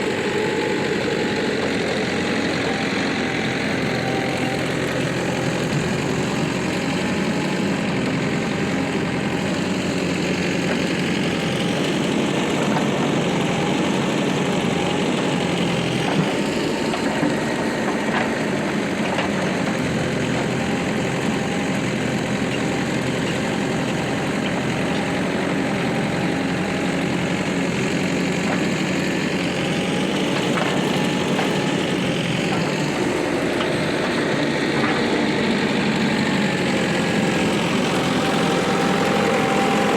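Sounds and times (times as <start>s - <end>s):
diesel machinery engine running: 0.0s - 39.9s.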